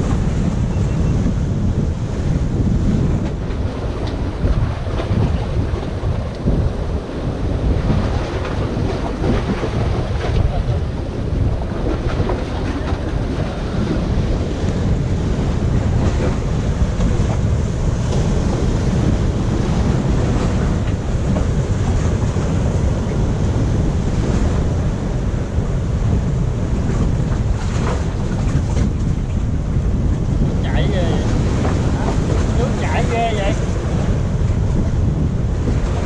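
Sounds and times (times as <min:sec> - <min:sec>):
surf washing against rocks: 0:00.0 - 0:36.0.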